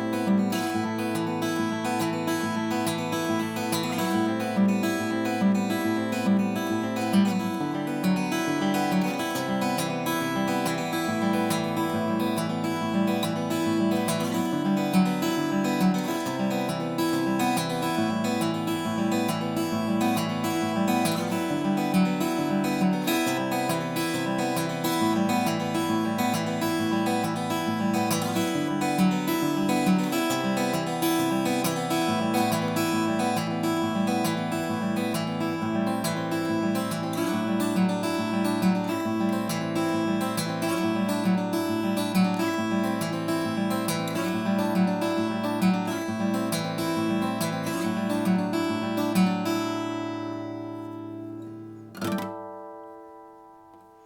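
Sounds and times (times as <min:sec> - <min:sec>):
acoustic guitar picking: 0:00.0 - 0:54.0.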